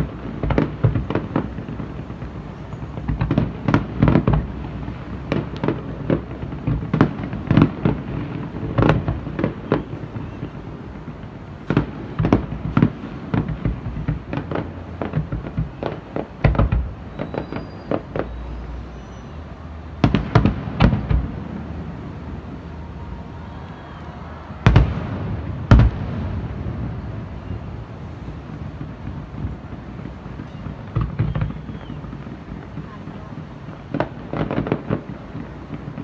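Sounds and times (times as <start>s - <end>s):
firework shells booming: 0.0s - 19.3s, 19.9s - 22.4s, 23.4s - 36.0s.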